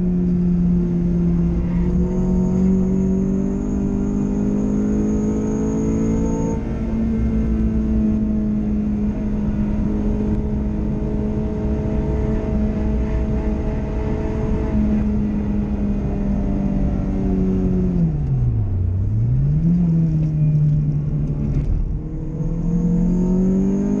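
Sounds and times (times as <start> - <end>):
car engine from inside cabin: 0.0 - 24.0.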